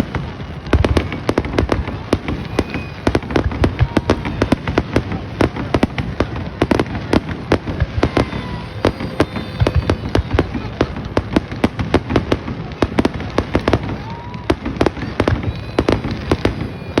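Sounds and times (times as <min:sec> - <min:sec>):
fireworks popping and banging: 0:00.0 - 0:17.0.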